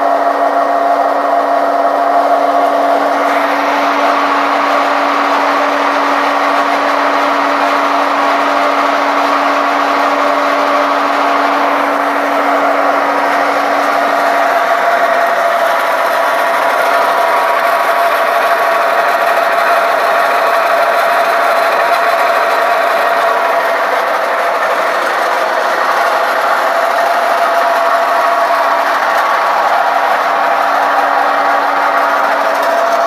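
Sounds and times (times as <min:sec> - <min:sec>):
constant machine whine: 0:00.0 - 0:33.0
pellet press machine running: 0:00.0 - 0:33.0.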